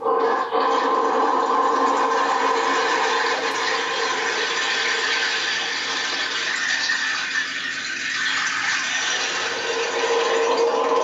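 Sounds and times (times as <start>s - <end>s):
rainstick pouring: 1.6s - 11.0s.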